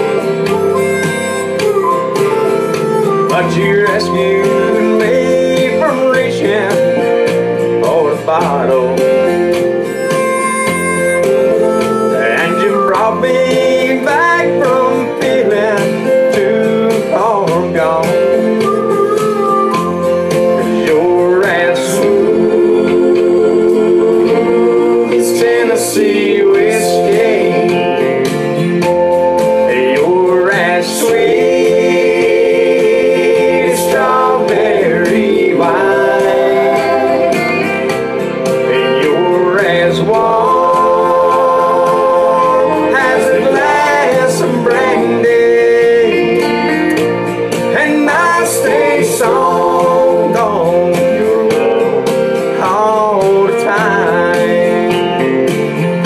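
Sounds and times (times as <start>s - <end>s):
guitar accompaniment: 0.0s - 56.0s
man singing country ballad: 3.0s - 10.0s, 11.7s - 56.0s.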